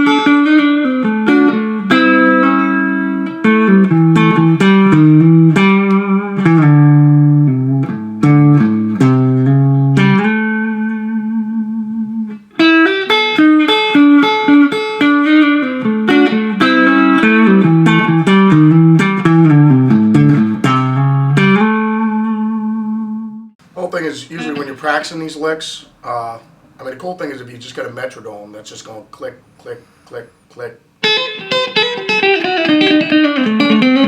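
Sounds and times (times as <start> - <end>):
electric guitar country lick: 0.0 - 26.5, 29.2 - 34.0.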